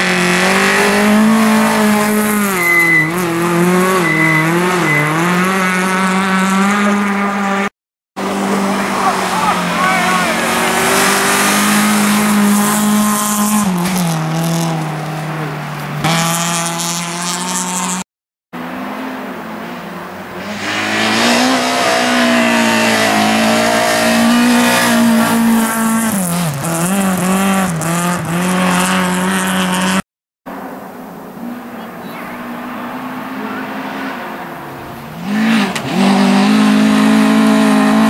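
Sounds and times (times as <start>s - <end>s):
rally car engines revving: 0.0s - 18.0s, 18.6s - 38.0s.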